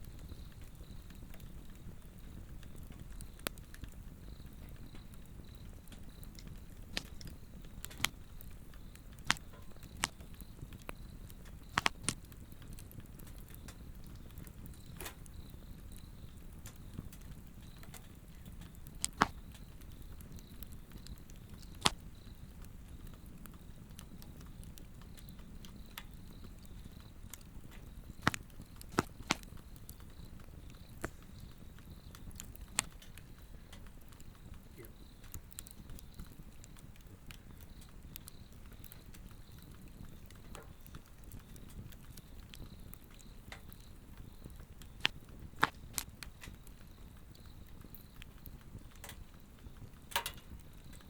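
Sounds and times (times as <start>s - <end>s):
log fire crackling and popping: 0.0s - 51.0s.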